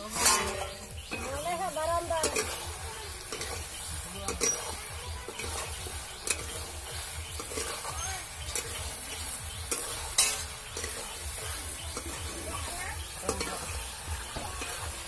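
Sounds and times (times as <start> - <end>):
chicken sizzling in a wok: 0.0 - 15.0
metal spatula scraping a pan: 0.0 - 15.0.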